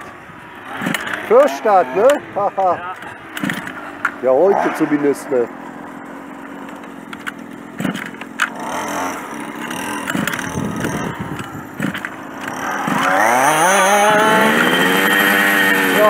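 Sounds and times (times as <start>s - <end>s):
small two-stroke engine starting: 0.5s - 4.0s, 5.5s - 16.0s.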